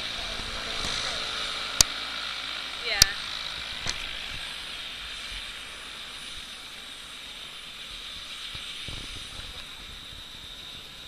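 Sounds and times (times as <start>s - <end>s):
helicopter turbine whine: 0.0s - 11.0s.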